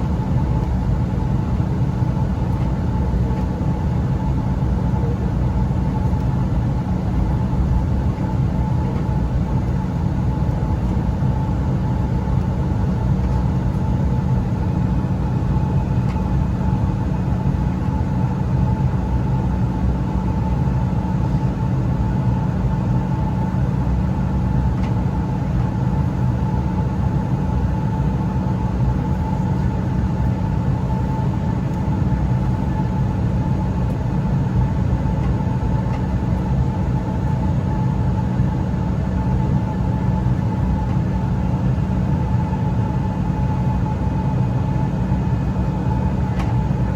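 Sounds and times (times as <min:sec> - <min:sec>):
low cabin rumble: 0:00.0 - 0:46.9
steady mid-pitched hum: 0:00.0 - 0:46.9.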